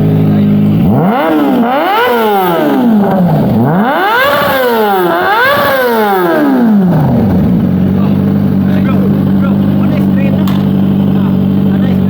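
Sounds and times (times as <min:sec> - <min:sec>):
motorcycle engine free-revving: 0:00.0 - 0:12.0.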